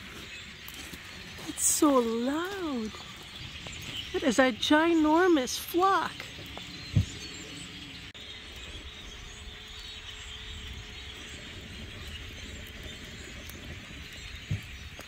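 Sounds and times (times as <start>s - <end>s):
large flock of birds calling: 0.0s - 15.0s.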